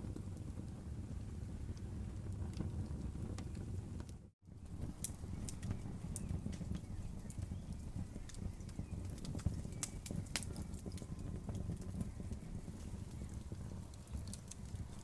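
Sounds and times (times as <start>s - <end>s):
campfire crackling and popping: 0.0s - 15.0s
low rush of burning: 0.0s - 15.0s.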